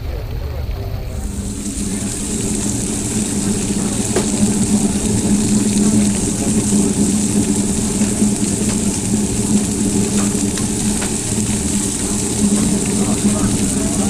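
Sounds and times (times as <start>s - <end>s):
low motor hum: 0.0s - 14.0s
food sizzling on a griddle: 1.2s - 14.0s.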